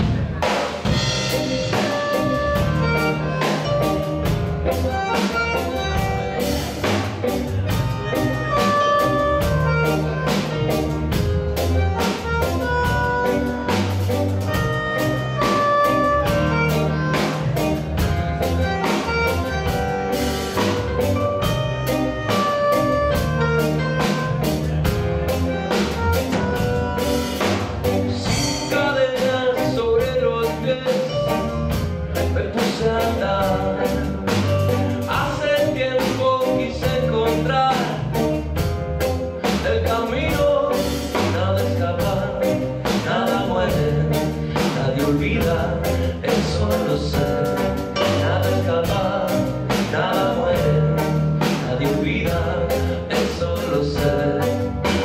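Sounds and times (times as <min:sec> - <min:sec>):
drum kit groove: 0:00.0 - 0:55.0
electric bass line: 0:00.0 - 0:55.0
held melody notes: 0:00.0 - 0:55.0.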